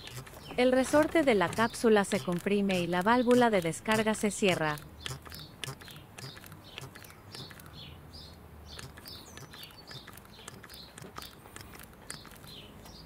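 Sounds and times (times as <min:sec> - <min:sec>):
sharp clicks: 0:00.0 - 0:13.0
small birds chirping: 0:00.0 - 0:13.0.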